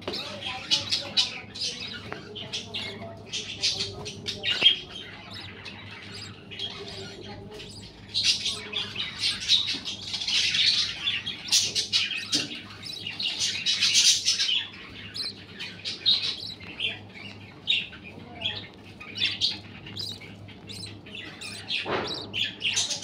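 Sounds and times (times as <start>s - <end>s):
budgerigars chirping and squawking: 0.0s - 23.0s.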